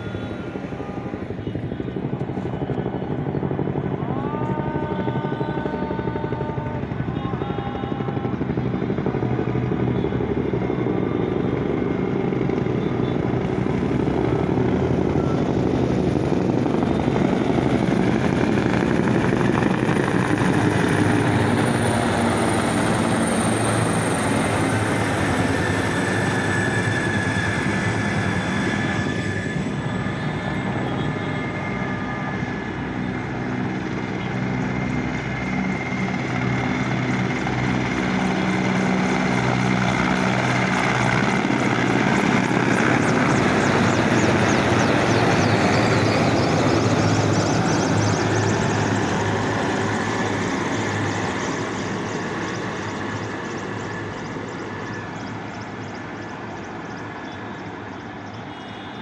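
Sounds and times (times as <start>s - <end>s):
helicopters flying over: 0.0s - 59.0s.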